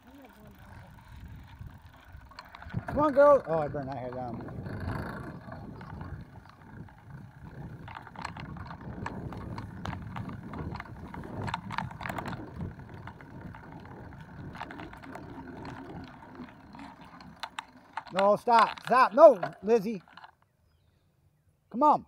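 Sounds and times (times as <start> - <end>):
bicycle tyre rumble: 0.0 - 20.4
bike clicks and rattles: 0.0 - 20.8.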